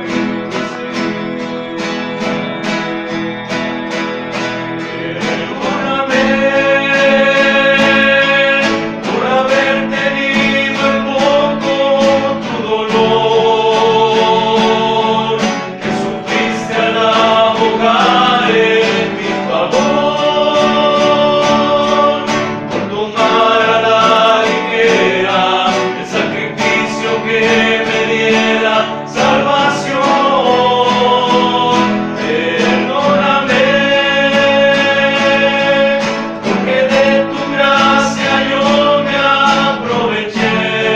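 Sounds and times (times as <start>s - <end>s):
men singing a hymn in harmony: 0.0s - 40.9s
strummed and plucked guitars: 0.0s - 40.9s.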